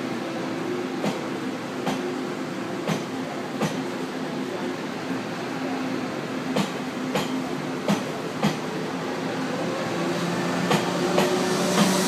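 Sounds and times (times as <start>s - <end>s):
train cars rolling rumble: 0.0s - 12.0s.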